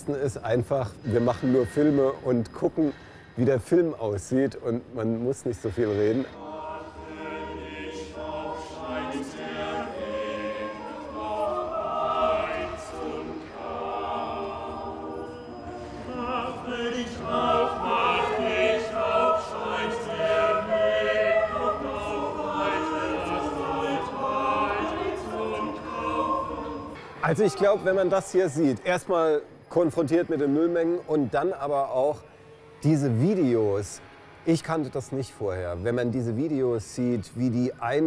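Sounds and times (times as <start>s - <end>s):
choir singing in harmony: 0.1s - 38.0s.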